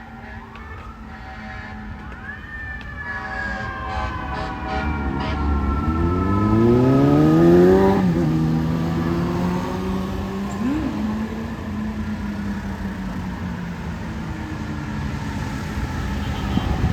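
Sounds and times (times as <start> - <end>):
fire truck engine accelerating: 0.1 - 16.9.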